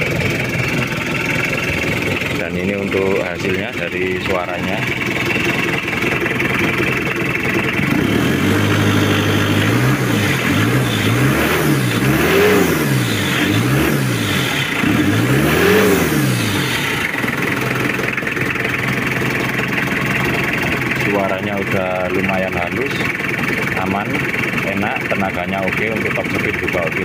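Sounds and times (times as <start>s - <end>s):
diesel engine idling and revving: 0.0s - 27.0s.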